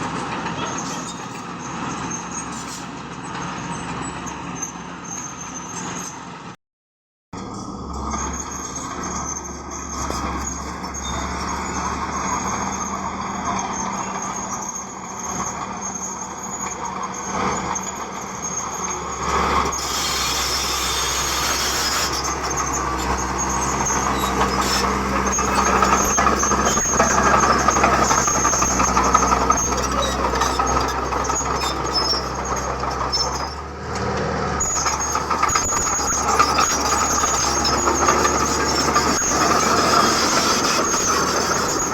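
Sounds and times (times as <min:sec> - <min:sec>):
high metallic squealing: 0:00.6 - 0:03.0, 0:07.4 - 0:33.7, 0:34.6 - 0:41.9
diesel machinery engine running: 0:07.4 - 0:41.9.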